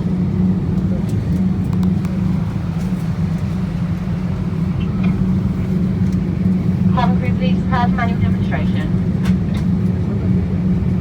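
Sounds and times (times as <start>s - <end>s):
airplane cabin hum: 0.0s - 11.0s.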